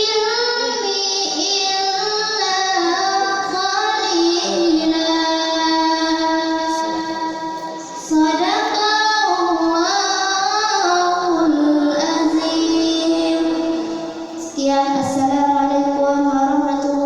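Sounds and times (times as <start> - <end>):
girl reciting melodically: 0.0 - 17.0.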